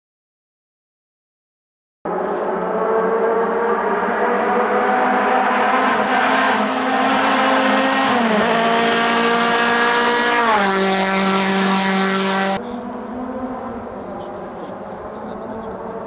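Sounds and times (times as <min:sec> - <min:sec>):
race car engine: 0:02.1 - 0:16.0.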